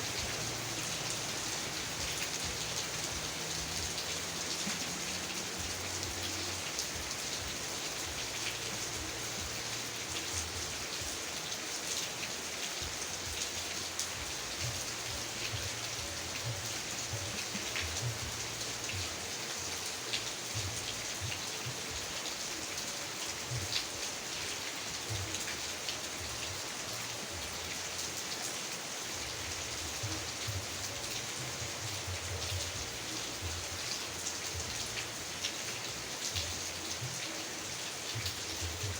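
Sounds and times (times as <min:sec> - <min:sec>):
heavy rain falling: 0:00.0 - 0:38.9
raindrops ticking: 0:00.0 - 0:38.9.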